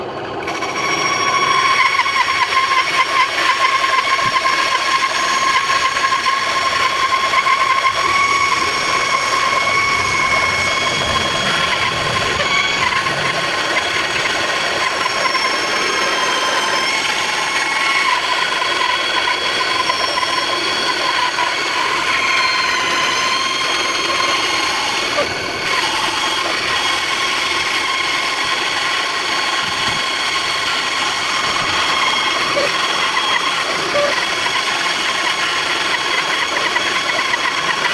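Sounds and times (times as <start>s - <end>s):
band saw cutting wood: 0.0s - 37.9s.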